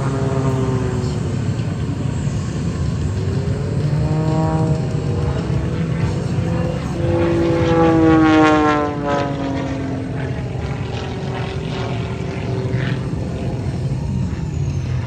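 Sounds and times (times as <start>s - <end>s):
propeller plane passing by: 0.0s - 15.0s.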